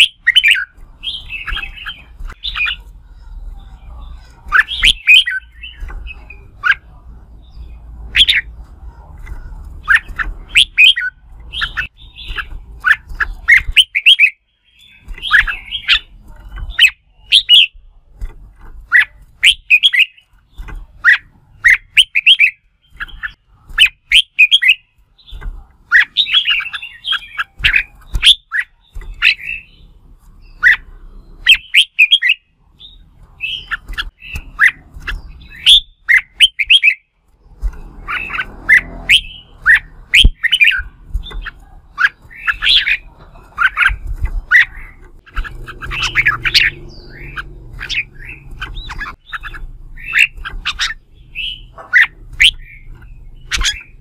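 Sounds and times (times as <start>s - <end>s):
bird singing rapid notes: 0.0s - 54.0s.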